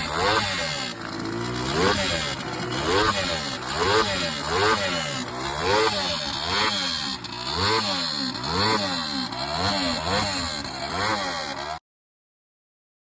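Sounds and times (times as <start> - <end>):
small engine revving: 0.0 - 11.8.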